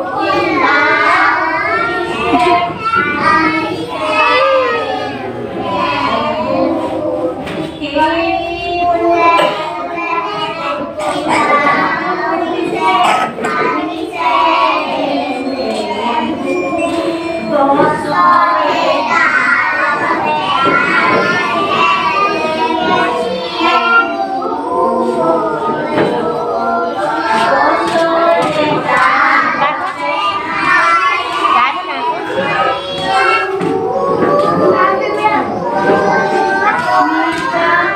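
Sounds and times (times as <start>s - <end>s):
young children singing: 0.0s - 37.9s.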